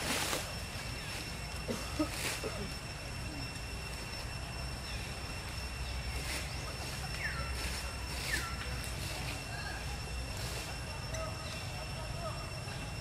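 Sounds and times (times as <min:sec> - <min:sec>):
faint constant high tone: 0:00.0 - 0:13.0.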